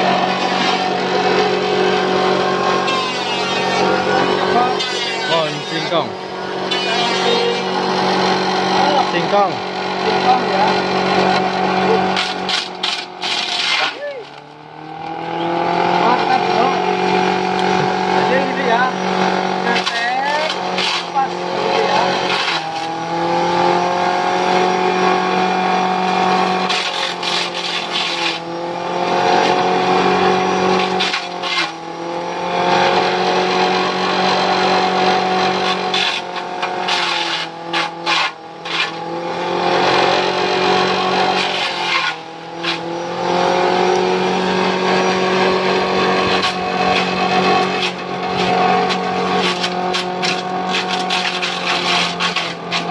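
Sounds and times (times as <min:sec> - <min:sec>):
chaff cutter chopping branches: 0:00.0 - 0:52.9
electric motor hum: 0:00.0 - 0:52.9.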